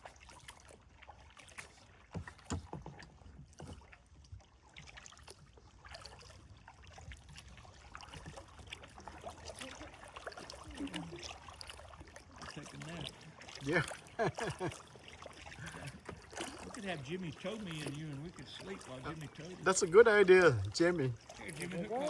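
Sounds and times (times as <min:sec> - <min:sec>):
paddle splashes and drips: 0:00.0 - 0:22.0.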